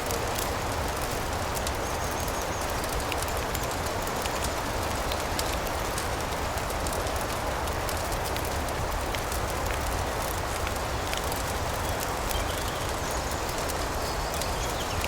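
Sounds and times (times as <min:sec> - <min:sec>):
fire crackling: 0:00.0 - 0:15.0
rain-like hiss: 0:00.0 - 0:15.0.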